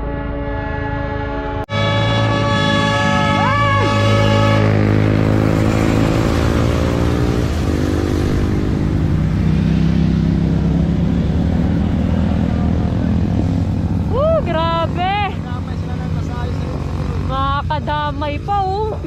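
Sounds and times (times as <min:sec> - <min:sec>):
rushing road noise: 0:00.0 - 0:19.0
vehicle engine running: 0:02.0 - 0:19.0.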